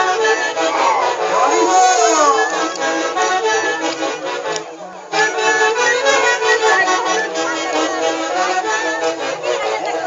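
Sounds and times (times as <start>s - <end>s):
folk band playing: 0.0s - 10.0s.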